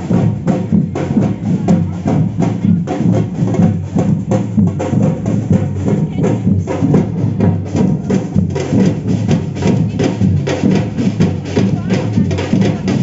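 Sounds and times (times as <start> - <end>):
deep bass drums: 0.0 - 13.0
samba drum group playing: 0.0 - 13.0.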